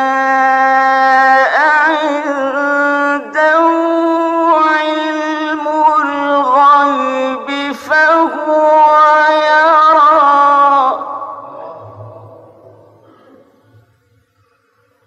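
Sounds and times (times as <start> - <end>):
man reciting melodically: 0.0 - 13.3.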